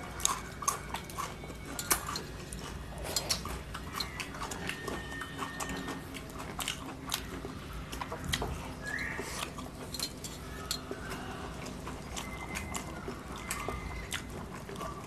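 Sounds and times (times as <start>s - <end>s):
chewing and lip smacks: 0.0s - 15.0s.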